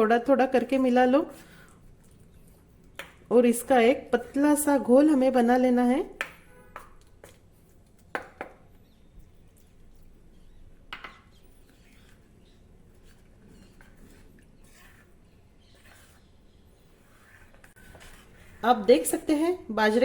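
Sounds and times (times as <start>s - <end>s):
faint stirring of batter: 0.1s - 20.0s.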